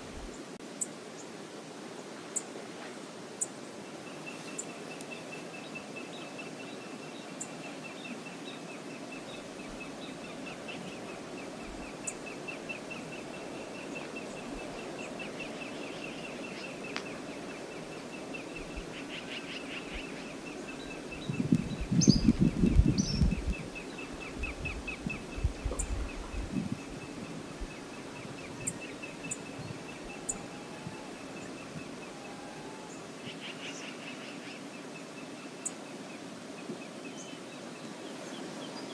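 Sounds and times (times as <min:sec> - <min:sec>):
river ambience: 0:00.0 - 0:38.9
bird calls: 0:04.0 - 0:37.5.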